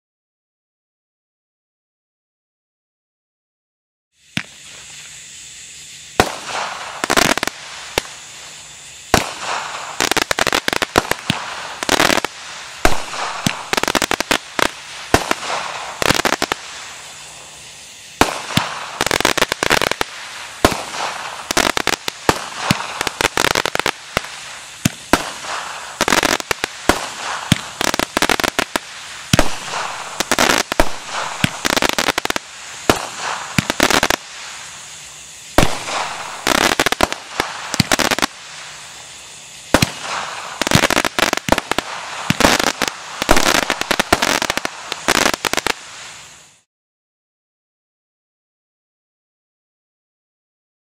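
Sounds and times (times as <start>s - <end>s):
firework bangs and rapid pops: 4.3s - 46.7s.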